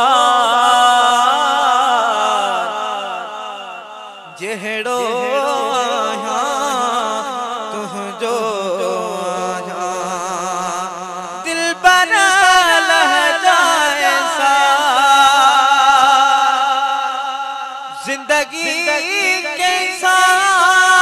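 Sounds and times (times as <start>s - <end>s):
man singing: 0.0s - 21.0s.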